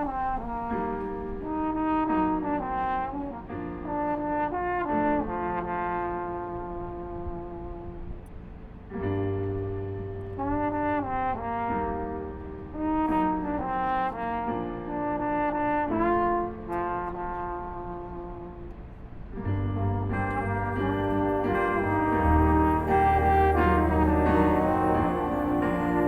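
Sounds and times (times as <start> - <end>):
brass section playing a chorale: 0.0 - 8.2, 10.4 - 18.7, 19.8 - 26.0.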